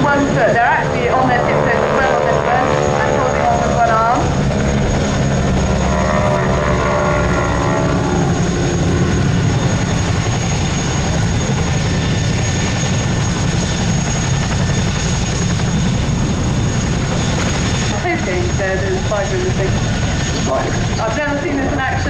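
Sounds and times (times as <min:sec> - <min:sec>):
biplane engines flying past: 0:00.0 - 0:22.0.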